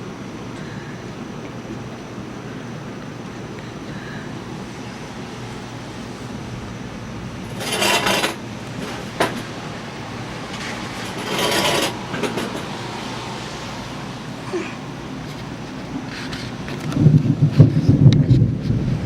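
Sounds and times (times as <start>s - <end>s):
rain hiss: 0.0s - 19.0s.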